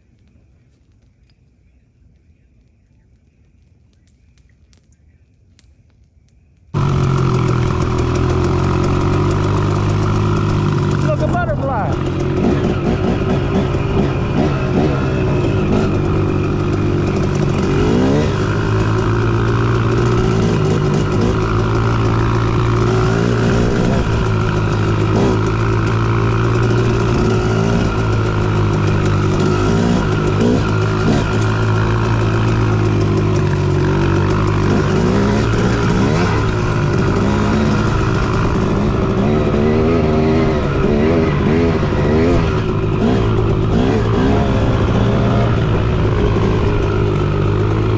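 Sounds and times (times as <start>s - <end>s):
dirt bike engine revving: 6.8s - 47.9s.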